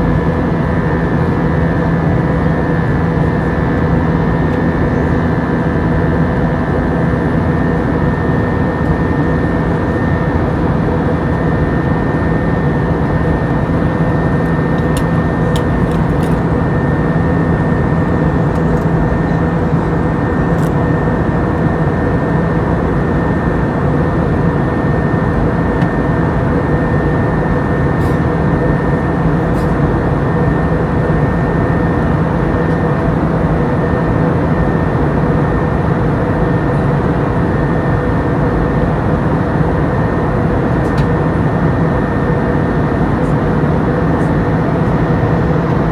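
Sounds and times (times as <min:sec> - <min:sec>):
jet engine cabin drone: 0:00.0 - 0:45.9.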